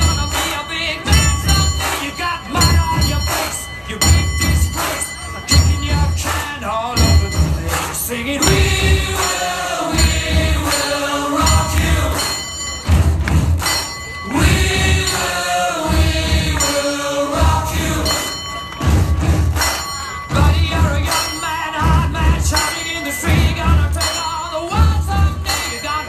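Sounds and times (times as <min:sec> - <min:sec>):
voices singing over low beat: 0:00.0 - 0:26.0.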